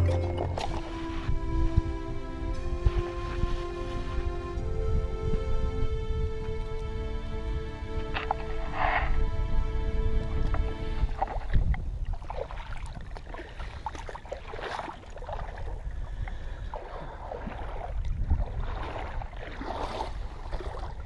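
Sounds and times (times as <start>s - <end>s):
water splashing around kayak: 0.0s - 21.0s
wind rumbling on microphone: 0.0s - 21.0s.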